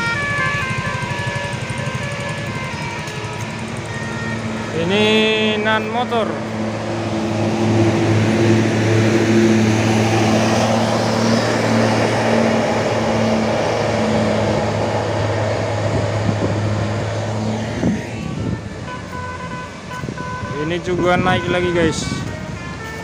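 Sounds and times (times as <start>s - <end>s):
bus engine running: 0.0s - 23.0s
tyre and road noise: 0.0s - 23.0s.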